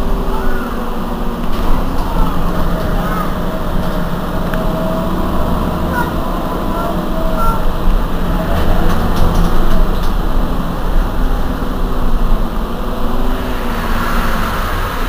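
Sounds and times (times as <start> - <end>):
bus diesel engine idling: 0.0 - 15.0.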